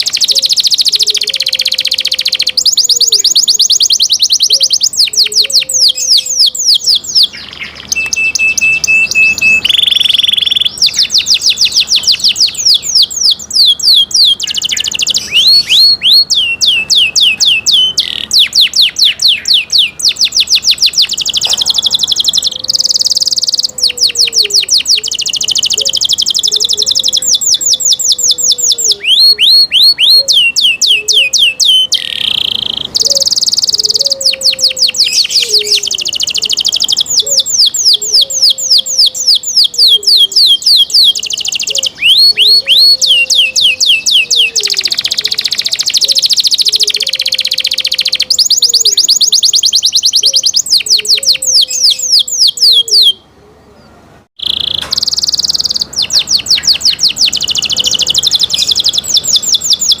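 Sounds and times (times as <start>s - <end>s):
canary singing trills: 0.0s - 60.0s.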